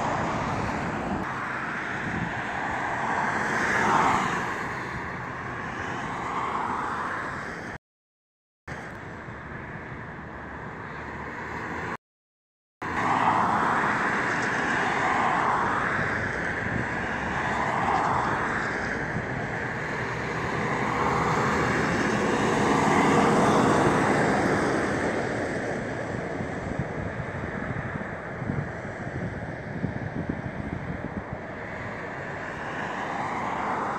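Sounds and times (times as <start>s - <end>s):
vehicles passing on highway: 0.0s - 7.8s, 8.7s - 12.0s, 12.8s - 33.9s.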